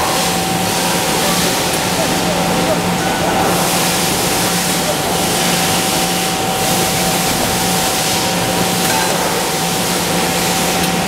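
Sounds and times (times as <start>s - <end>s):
factory machinery running: 0.0s - 11.0s.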